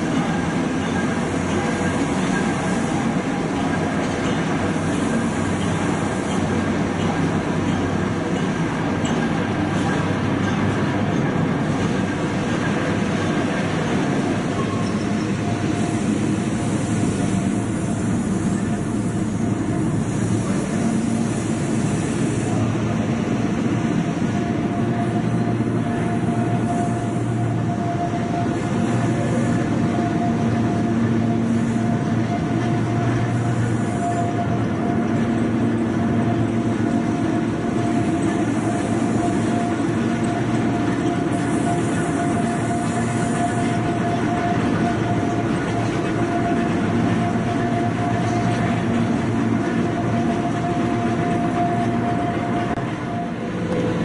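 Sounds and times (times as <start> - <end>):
overhead crane rumbling and whining: 0.0 - 54.0.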